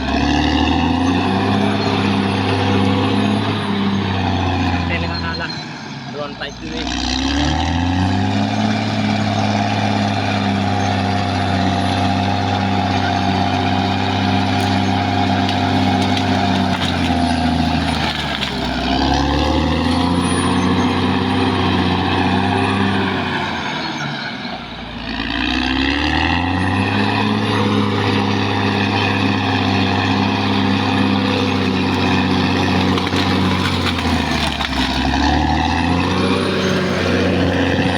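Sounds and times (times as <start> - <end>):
bulldozer diesel engine revving: 0.0 - 37.9.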